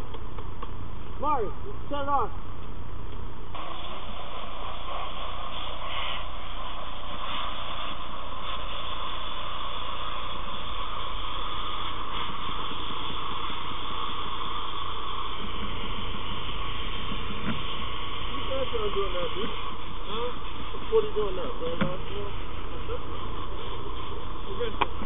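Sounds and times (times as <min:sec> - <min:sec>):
fire hose spraying water: 0:03.5 - 0:25.0.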